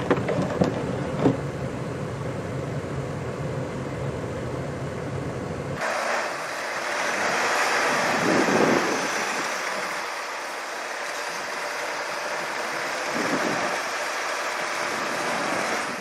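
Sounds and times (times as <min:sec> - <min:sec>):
steady rushing noise: 0:00.3 - 0:16.0.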